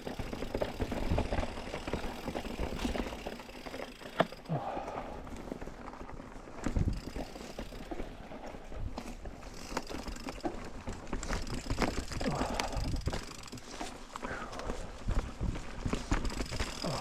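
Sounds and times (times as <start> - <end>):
bike tyres clicking over stones: 0.0 - 17.0.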